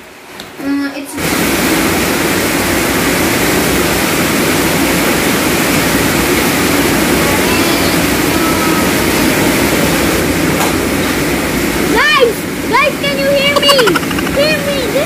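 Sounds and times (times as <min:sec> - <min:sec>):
heavy rain pouring: 0:01.2 - 0:15.0.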